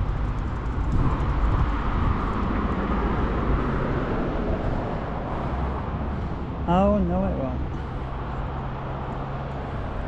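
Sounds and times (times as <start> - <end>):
road traffic tyres and engines: 0.0 - 10.0
vehicle passing: 0.0 - 10.0.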